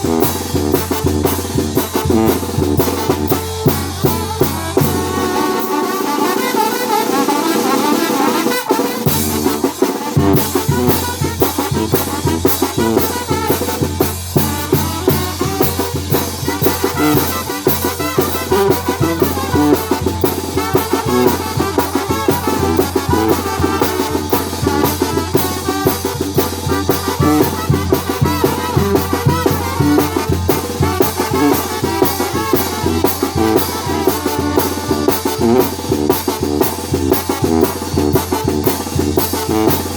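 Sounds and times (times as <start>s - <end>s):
brass band music with trumpets: 0.0s - 39.9s
steady drum beat: 0.0s - 39.9s.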